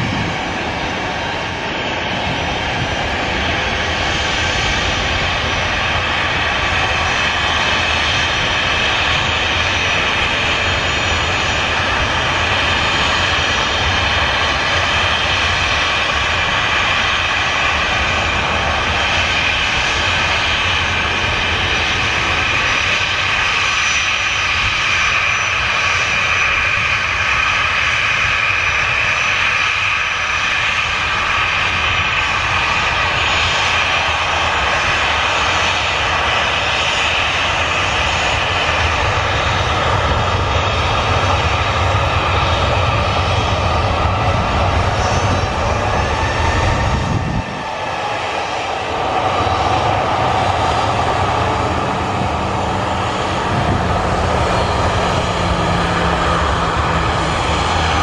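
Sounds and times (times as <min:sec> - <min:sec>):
jet engines taxiing: 0:00.0 - 0:58.0.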